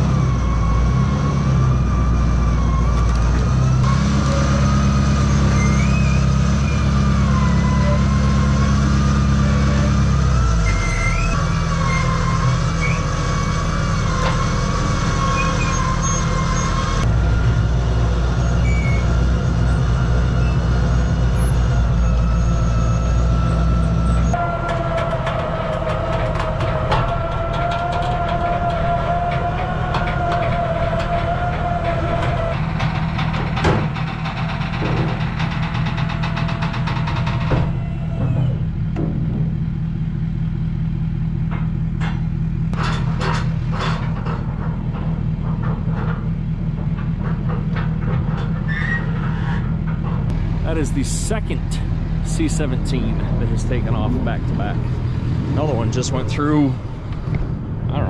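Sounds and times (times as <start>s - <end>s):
hydraulic hoist whine: 0.0s - 58.0s
truck engine running: 0.0s - 58.0s.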